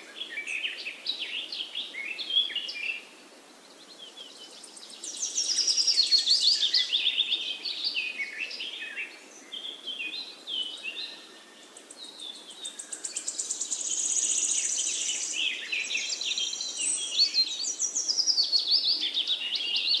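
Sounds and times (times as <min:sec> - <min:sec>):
small birds chirping and singing: 0:00.0 - 0:20.0.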